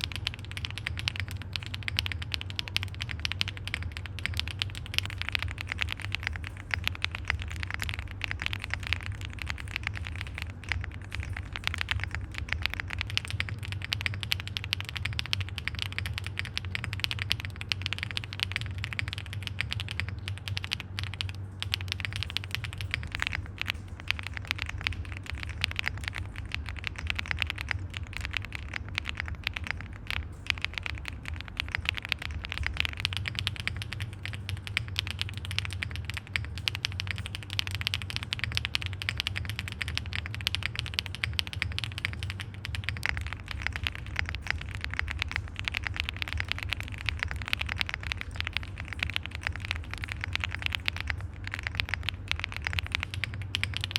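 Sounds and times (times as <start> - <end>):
fast typing on mechanical keyboard: 0.0 - 53.9.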